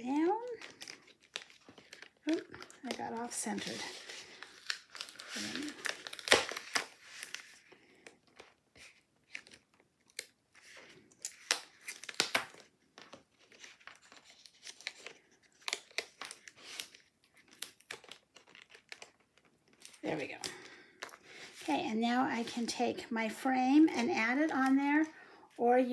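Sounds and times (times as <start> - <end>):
paper rustling and crinkling: 0.4 - 21.7.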